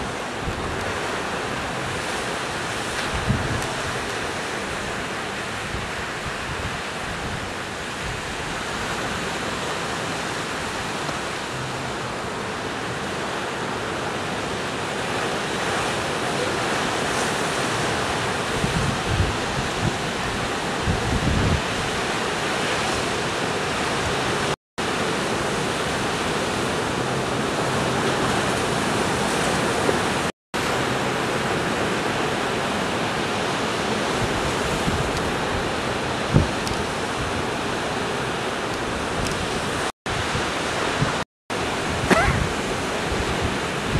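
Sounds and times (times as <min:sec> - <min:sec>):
ocean surf breaking: 0:00.0 - 0:43.9.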